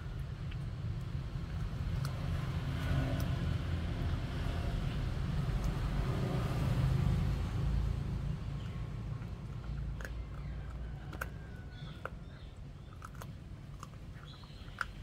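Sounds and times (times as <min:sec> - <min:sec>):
puppy gnawing bone crunching: 0:00.0 - 0:07.4, 0:08.0 - 0:15.0.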